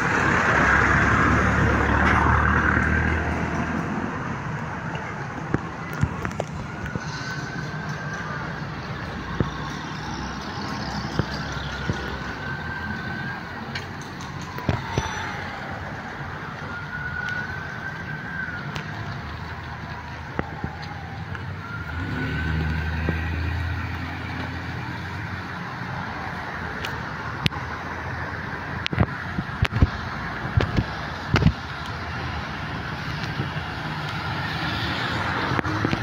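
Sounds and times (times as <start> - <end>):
siren wailing: 0.0 - 27.4, 28.0 - 36.0.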